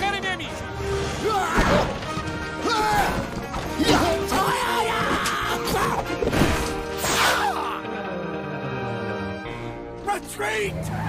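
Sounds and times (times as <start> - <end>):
movie soundtrack music: 0.0 - 11.0.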